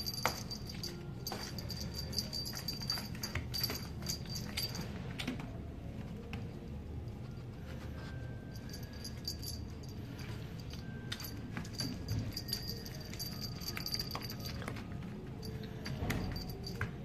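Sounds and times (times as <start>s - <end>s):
light metallic jingling: 0.0s - 5.0s, 8.4s - 17.0s.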